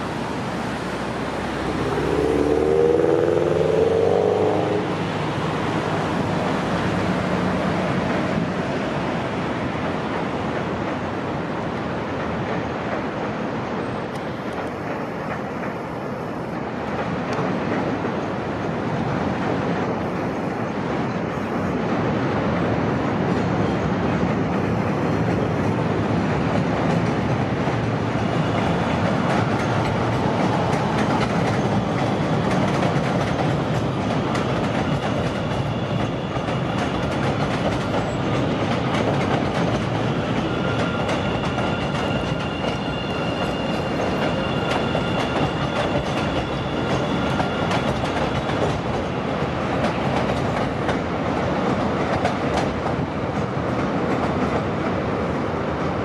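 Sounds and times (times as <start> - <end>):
train wheels on track: 0.0 - 56.0.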